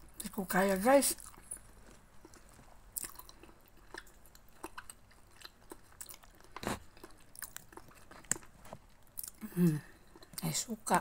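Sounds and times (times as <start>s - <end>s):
person chewing: 1.2s - 10.5s.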